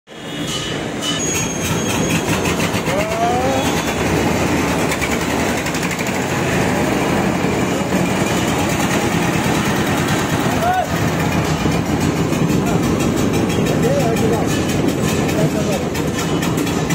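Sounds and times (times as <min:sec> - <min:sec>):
diesel engine running: 0:02.2 - 0:16.9.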